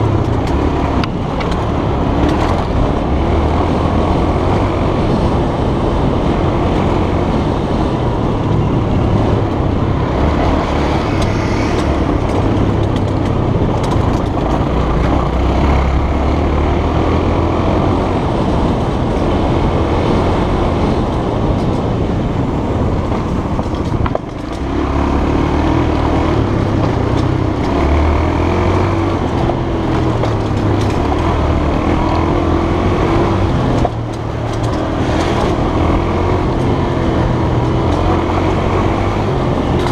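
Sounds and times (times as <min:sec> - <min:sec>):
motorbike engine revving: 0:00.0 - 0:21.7, 0:24.4 - 0:39.9.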